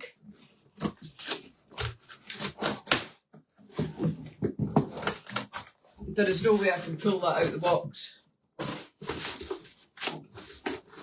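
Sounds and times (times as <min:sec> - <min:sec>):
cardboard and polystyrene rustling: 0:00.3 - 0:07.8, 0:08.5 - 0:11.0.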